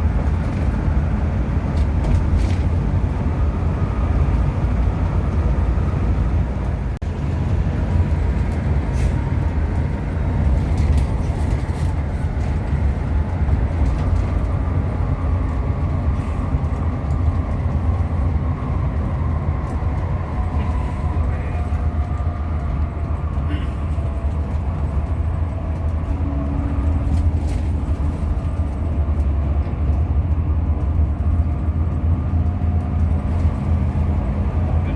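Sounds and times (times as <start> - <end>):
coach engine and road rumble: 0.0 - 34.9.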